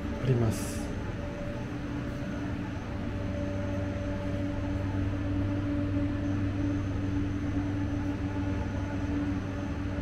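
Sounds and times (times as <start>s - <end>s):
vending machine hum: 0.0s - 10.0s.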